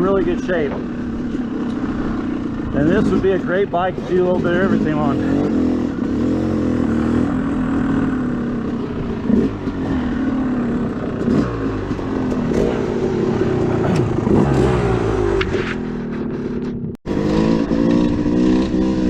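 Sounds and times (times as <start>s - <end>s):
dirt bike two-stroke engine revving: 0.0s - 19.0s.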